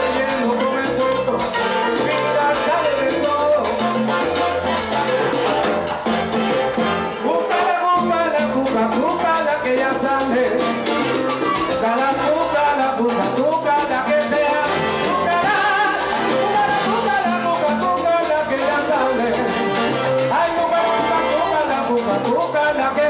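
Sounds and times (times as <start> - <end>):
man singing into microphone: 0.0 - 4.2, 7.2 - 11.0, 11.7 - 23.0
salsa band playing: 0.0 - 23.0.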